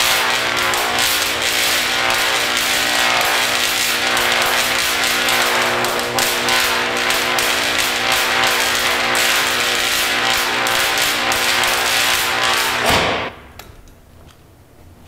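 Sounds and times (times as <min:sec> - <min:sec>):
electric arc buzzing and crackling: 0:00.0 - 0:13.5.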